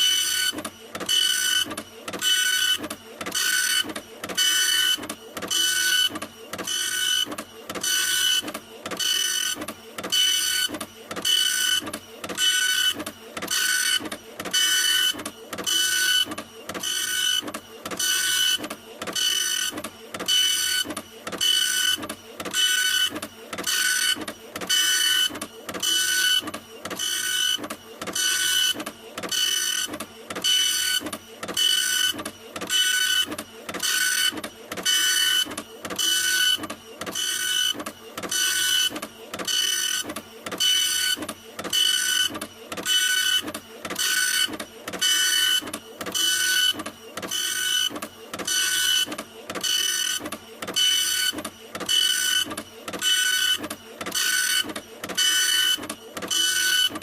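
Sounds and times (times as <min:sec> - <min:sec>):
printer mechanical strokes: 0:00.0 - 0:57.0.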